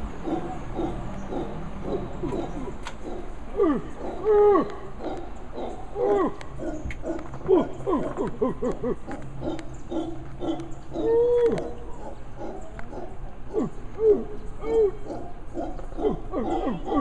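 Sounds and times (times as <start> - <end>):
howler monkey calling: 0.2 - 17.0.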